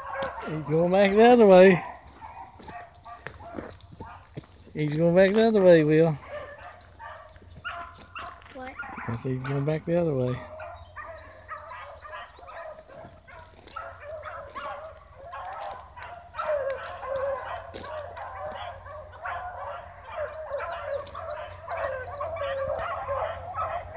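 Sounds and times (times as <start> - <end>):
beagles baying: 0.0 - 23.9.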